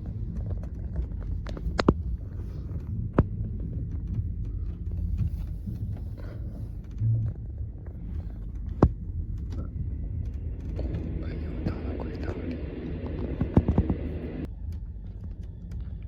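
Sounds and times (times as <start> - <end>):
train rumble and throb: 0.0 - 16.0.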